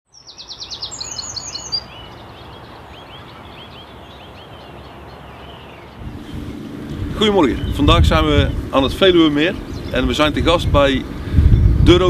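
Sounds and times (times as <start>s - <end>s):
birds singing: 0.1s - 12.0s.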